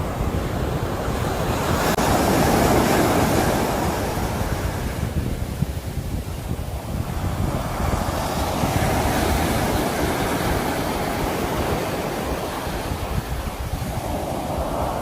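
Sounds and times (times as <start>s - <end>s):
sea waves washing onto shore: 0.0s - 15.0s.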